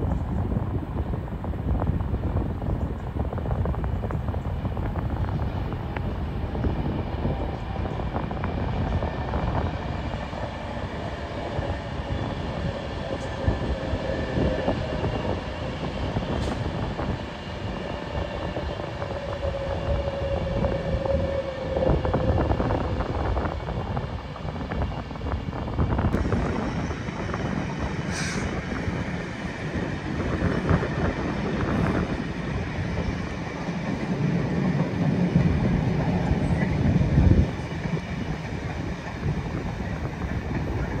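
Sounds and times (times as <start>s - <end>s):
train whine: 0.0s - 41.0s
wheels rumbling on rails: 0.0s - 41.0s.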